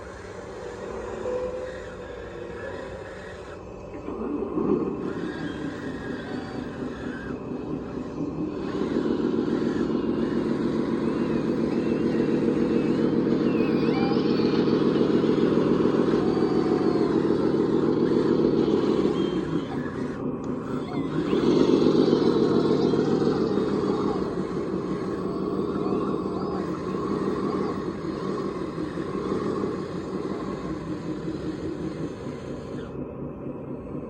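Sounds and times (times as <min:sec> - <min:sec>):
radio-controlled machine engine drone: 0:00.0 - 0:34.0.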